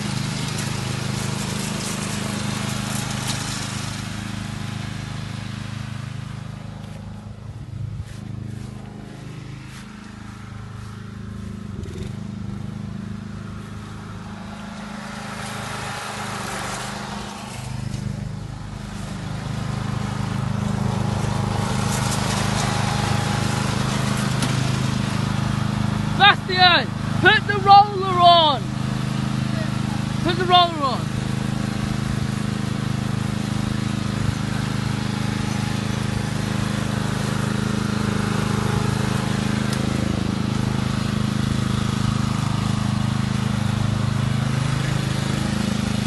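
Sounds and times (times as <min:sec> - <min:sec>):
lawn mower engine running: 0:00.0 - 0:46.0.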